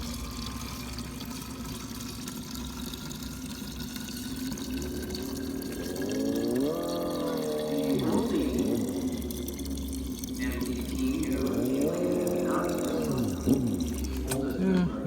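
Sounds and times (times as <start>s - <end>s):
liquid pouring and splashing: 0.0s - 15.0s.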